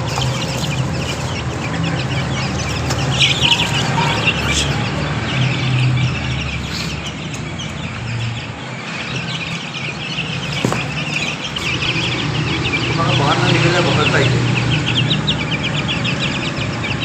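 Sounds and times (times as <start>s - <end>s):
chicks cheeping: 0.0s - 17.0s.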